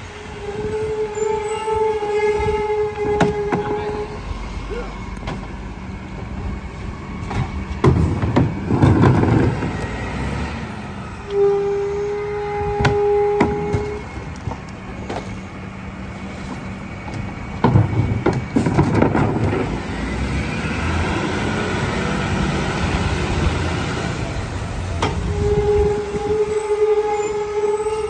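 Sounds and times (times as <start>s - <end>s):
garbage truck running: 0.0s - 28.0s.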